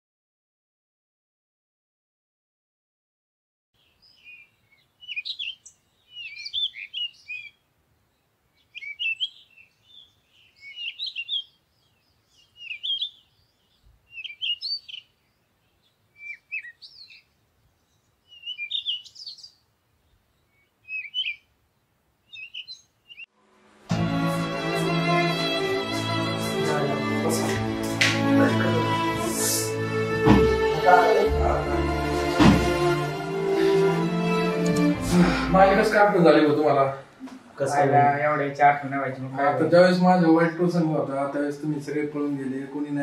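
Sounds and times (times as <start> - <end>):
birds chirping: 3.8 - 23.3, 24.1 - 43.0.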